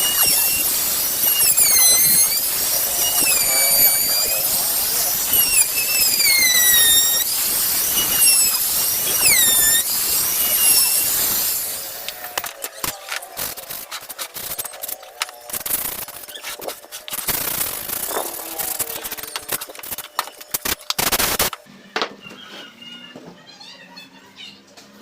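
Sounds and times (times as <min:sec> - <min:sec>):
power tool motor whine: 0:00.0 - 0:21.6.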